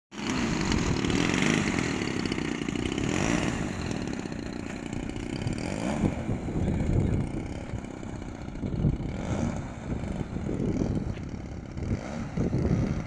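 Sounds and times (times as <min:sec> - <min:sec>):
model plane engine running: 0:00.1 - 0:13.0.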